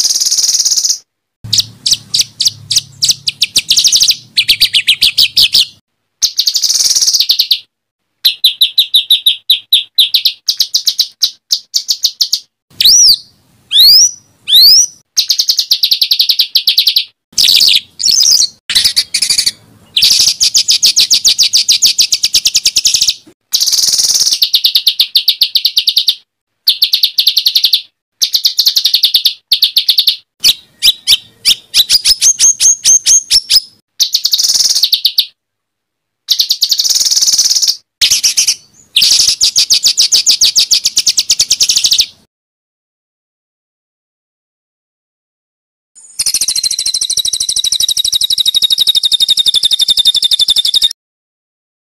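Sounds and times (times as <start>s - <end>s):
songbird singing rapid harsh phrases: 0.0s - 35.4s, 36.3s - 42.3s, 46.0s - 51.0s.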